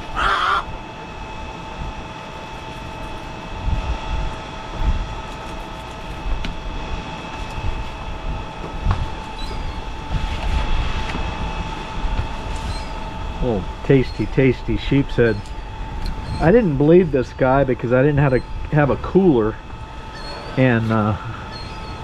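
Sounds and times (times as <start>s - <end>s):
wind buffeting microphone: 0.0s - 2.2s, 3.4s - 5.3s, 6.2s - 20.1s
high-toned mechanical hum: 0.0s - 22.0s.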